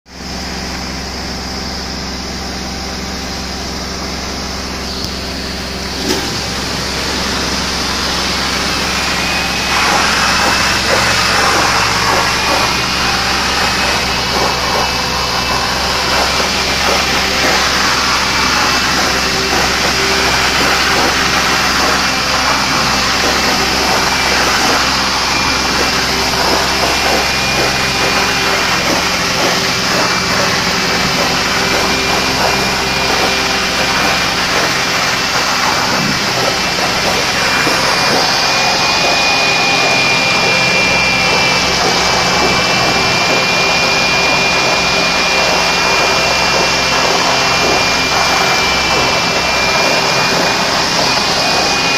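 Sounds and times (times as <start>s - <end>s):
extraction machine vacuum rush: 0.1s - 51.9s
high-pitched whine: 0.1s - 51.9s.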